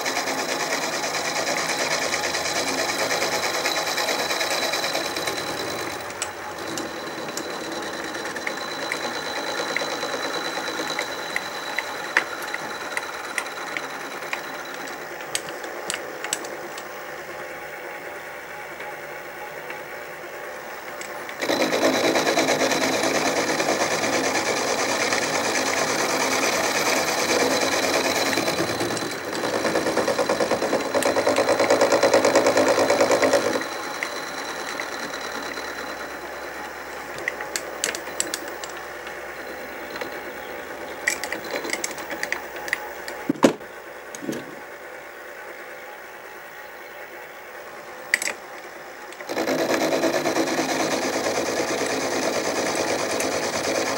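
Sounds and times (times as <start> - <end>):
milling machine whine and chatter: 0.0 - 53.9.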